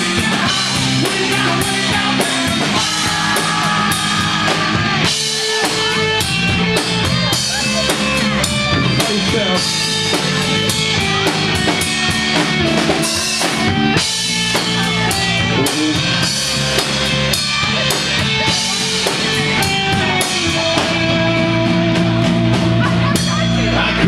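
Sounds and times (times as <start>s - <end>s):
bass guitar: 0.0s - 24.0s
drum-kit beat: 0.0s - 24.0s
electric guitar: 0.0s - 24.0s.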